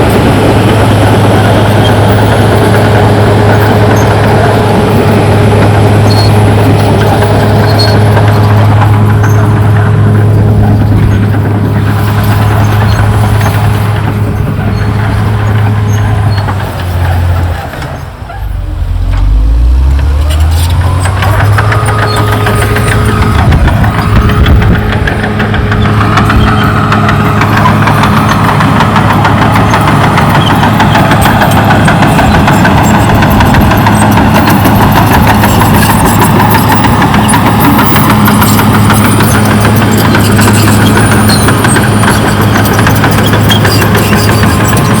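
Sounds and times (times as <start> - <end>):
bulldozer diesel engine drone: 0.0 - 45.0.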